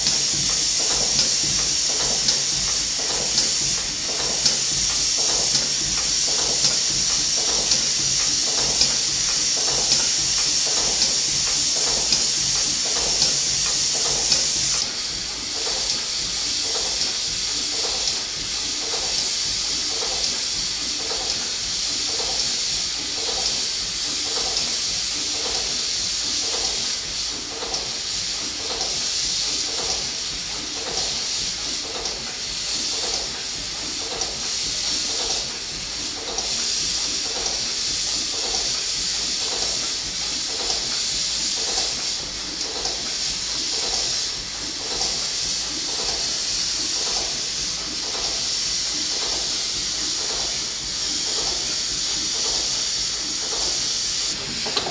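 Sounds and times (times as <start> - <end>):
steam engine chuffing: 0.0 - 54.9
steam hissing: 0.0 - 54.9.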